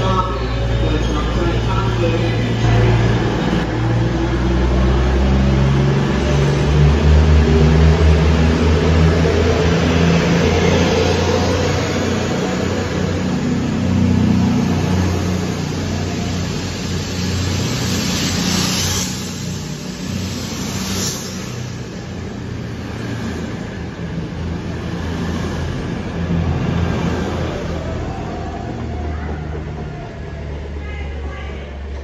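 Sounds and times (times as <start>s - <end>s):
diesel train engines running: 0.0s - 32.0s
rush of passing train coaches: 0.0s - 32.0s.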